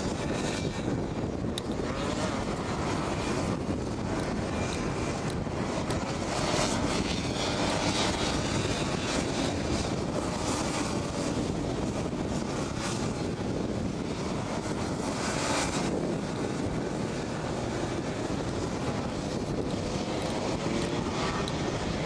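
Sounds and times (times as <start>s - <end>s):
kart engines racing past: 0.0s - 22.0s.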